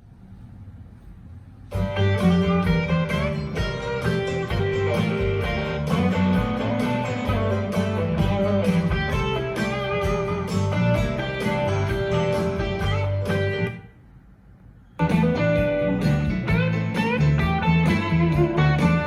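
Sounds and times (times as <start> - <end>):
guitar-led music over speaker: 1.7 - 13.9, 15.0 - 19.0.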